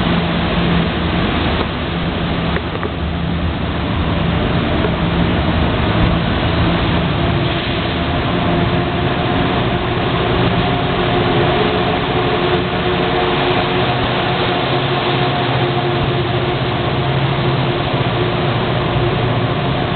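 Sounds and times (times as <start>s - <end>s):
diesel locomotive engine drone: 0.0s - 19.9s
rumble of passing rail cars: 0.0s - 19.9s.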